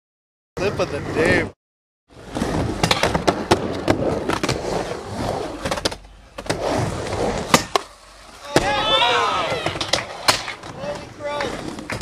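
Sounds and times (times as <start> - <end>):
skateboard wheels rolling: 2.1 - 12.0.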